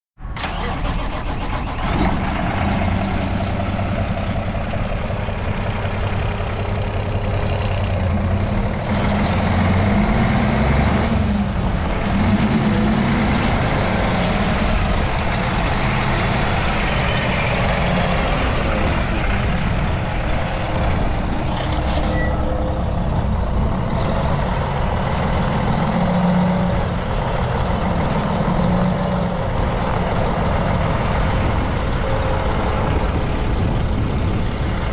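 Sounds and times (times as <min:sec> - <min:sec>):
diesel truck engine idling: 0:00.4 - 0:34.9.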